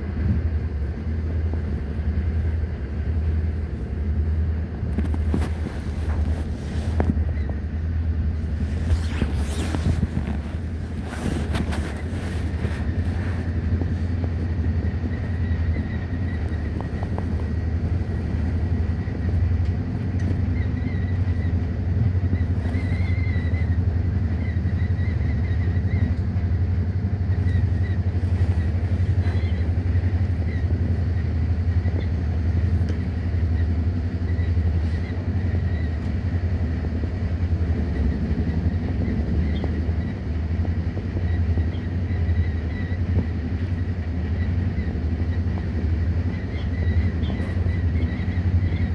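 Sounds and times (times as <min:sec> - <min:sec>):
vehicle low rumble: 0:00.0 - 0:48.9.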